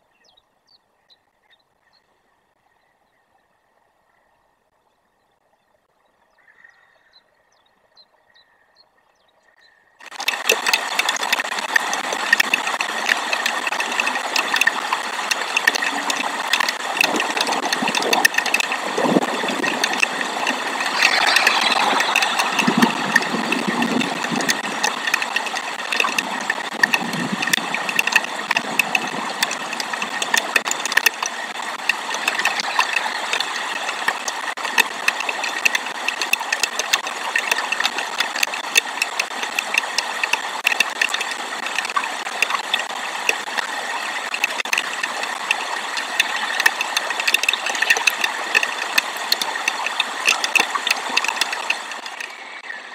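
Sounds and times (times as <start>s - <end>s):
hiss of rain: 10.0s - 52.9s
raindrops ticking: 10.0s - 52.9s.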